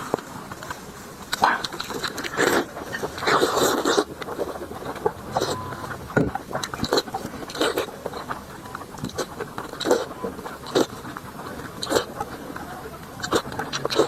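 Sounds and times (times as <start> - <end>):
person chewing with wet smacks: 0.0 - 14.0.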